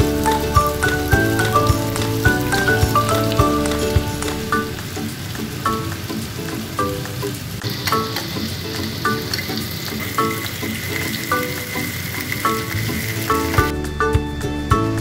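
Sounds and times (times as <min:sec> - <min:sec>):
chicken frying in oil: 0:00.0 - 0:13.7
background music: 0:00.0 - 0:15.0.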